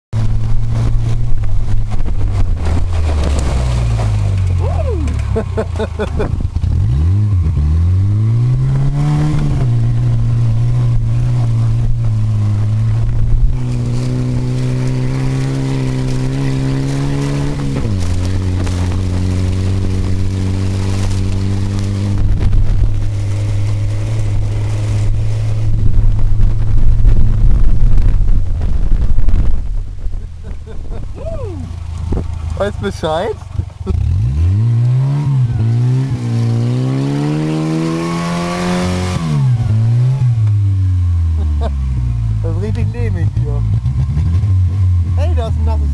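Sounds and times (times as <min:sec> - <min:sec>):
car engine revving: 0:00.1 - 0:45.9
car rumbling over rough ground: 0:00.1 - 0:45.9.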